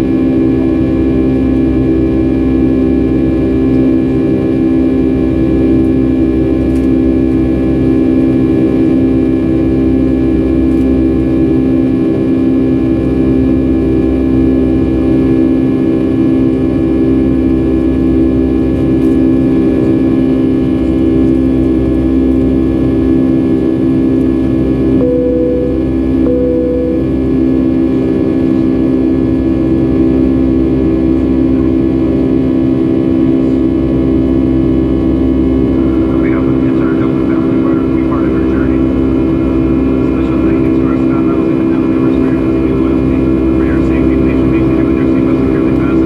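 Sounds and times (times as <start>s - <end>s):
airplane cabin jet engine drone: 0.0s - 46.0s.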